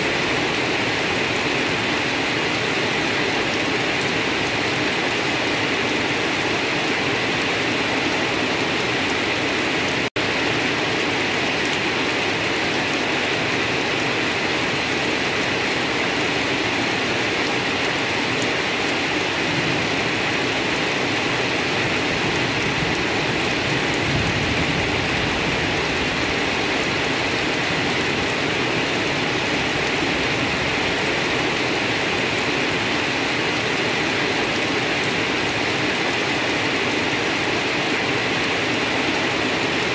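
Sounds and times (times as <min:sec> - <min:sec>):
rain on leafy undergrowth: 0:00.0 - 0:39.9.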